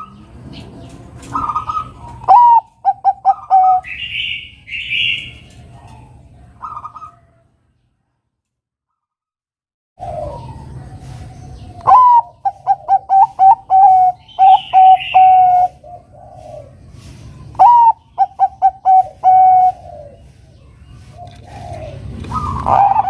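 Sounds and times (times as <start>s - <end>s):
dove cooing: 0.8s - 7.4s, 10.0s - 23.0s.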